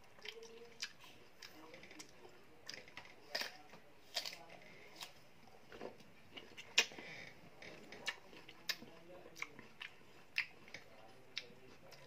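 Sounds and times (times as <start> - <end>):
crunching of mango being chewed: 0.2 - 7.1, 7.7 - 12.0.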